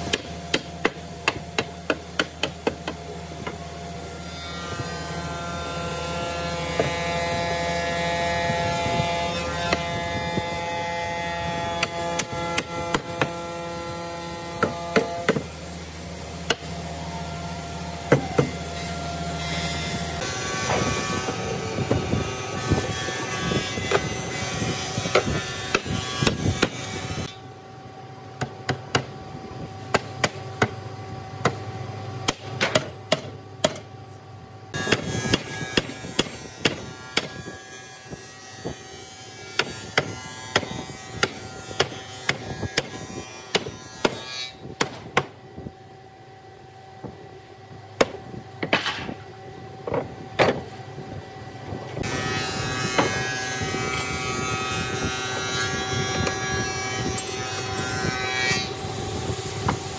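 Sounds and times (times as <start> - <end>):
steady electric hum: 0.0 - 59.9.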